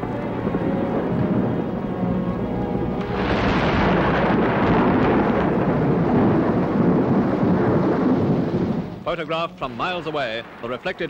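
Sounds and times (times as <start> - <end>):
bomb blast rumble: 0.0 - 11.0.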